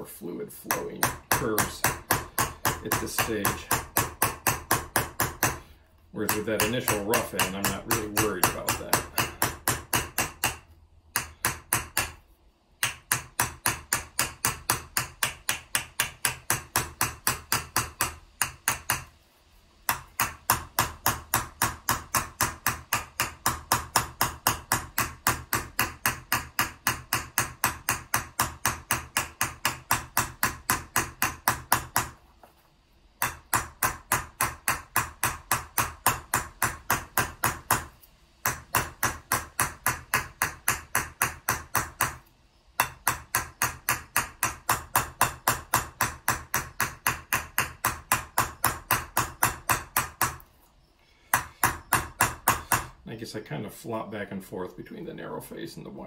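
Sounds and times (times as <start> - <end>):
hammer striking copper vessel: 0.7 - 5.6, 6.2 - 12.2, 12.8 - 19.1, 19.9 - 32.2, 33.2 - 42.2, 42.8 - 50.4, 51.3 - 53.0.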